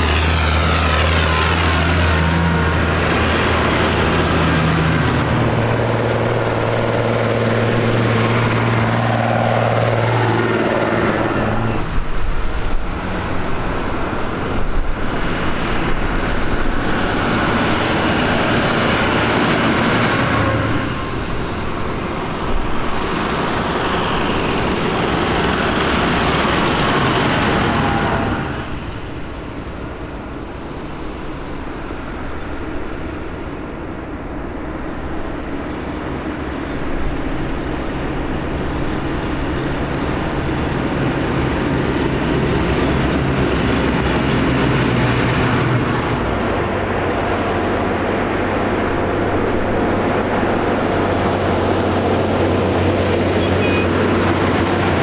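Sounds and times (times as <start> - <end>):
diesel tractors driving past: 0.0 - 55.0.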